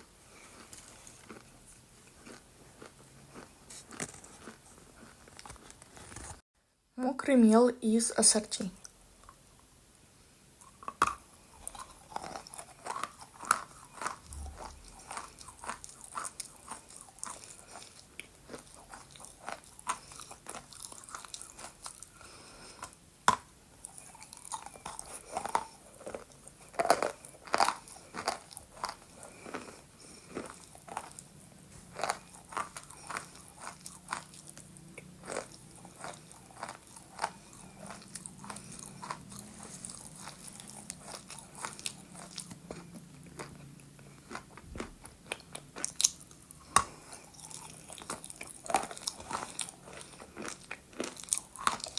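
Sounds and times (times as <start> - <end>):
chalk crunching while chewed: 0.3 - 6.4, 10.6 - 51.9.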